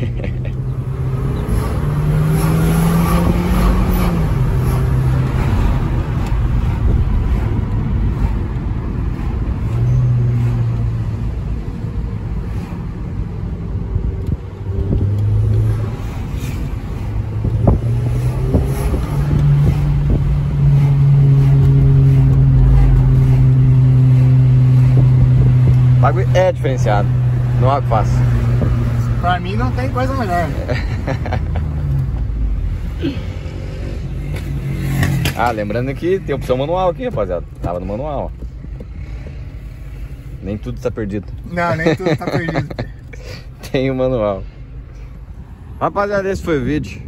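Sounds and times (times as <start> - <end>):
car engine accelerating: 0.0 - 45.4.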